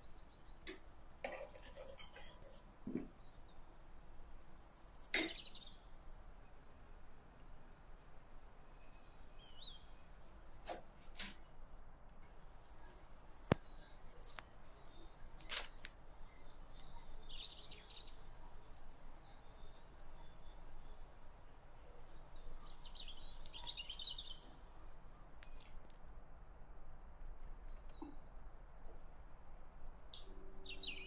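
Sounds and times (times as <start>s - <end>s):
small birds chirping: 0.0s - 7.4s, 8.0s - 10.4s, 11.4s - 26.1s, 30.0s - 31.0s.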